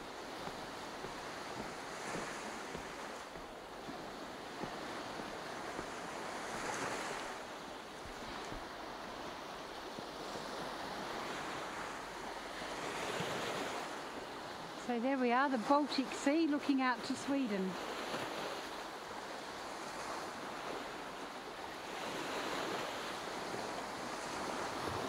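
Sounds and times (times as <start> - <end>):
waves washing onto stony shore: 0.0 - 25.0.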